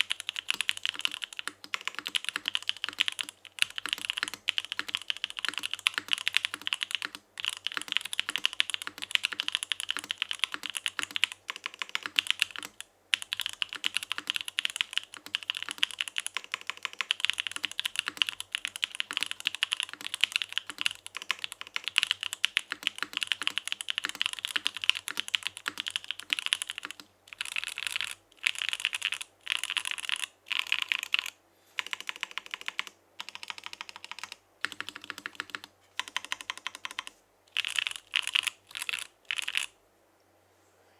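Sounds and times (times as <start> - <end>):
fast typing on mechanical keyboard: 0.0 - 39.7.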